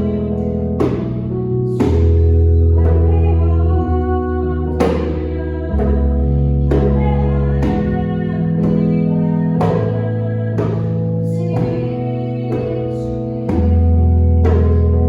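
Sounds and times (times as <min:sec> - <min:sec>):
person singing: 0:00.0 - 0:15.0
piano chords: 0:00.0 - 0:15.0
djembe striking: 0:00.8 - 0:03.3, 0:04.8 - 0:15.0.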